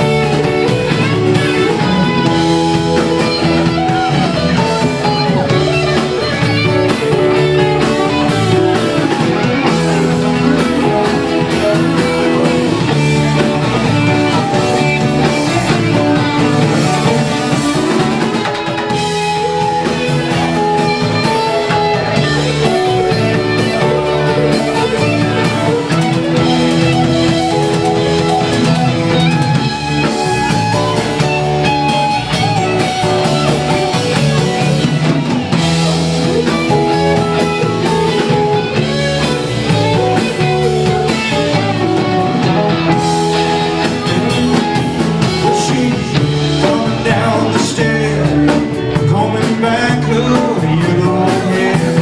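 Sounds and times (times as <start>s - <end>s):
bass guitar: 0.0s - 52.0s
drum kit beat: 0.0s - 52.0s
electric guitar: 0.0s - 52.0s
strummed guitar: 0.0s - 52.0s.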